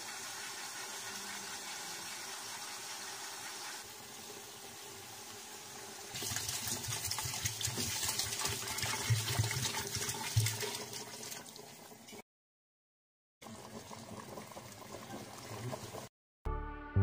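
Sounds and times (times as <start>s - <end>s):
water pouring into hot oil: 0.0s - 12.2s, 13.4s - 16.1s.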